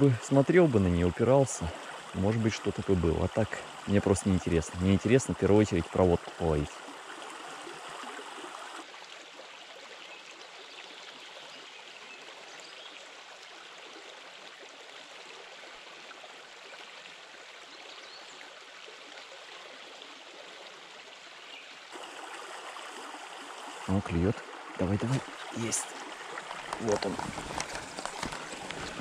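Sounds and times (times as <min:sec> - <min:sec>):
brook babbling: 0:00.0 - 0:29.0.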